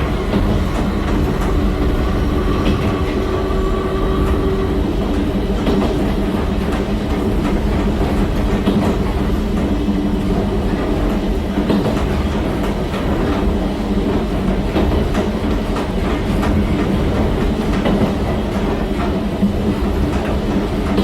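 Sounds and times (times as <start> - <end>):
train motor and gear hum: 0.0 - 21.0.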